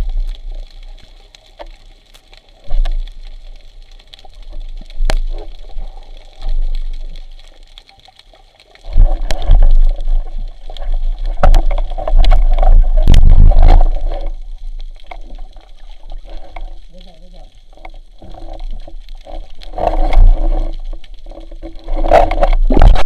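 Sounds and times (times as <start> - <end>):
water splashing and gurgling: 0.0 - 23.0.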